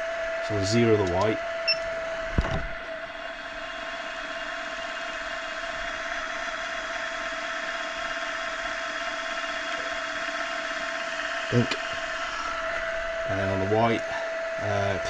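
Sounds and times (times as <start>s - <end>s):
milling machine running: 0.0s - 15.0s.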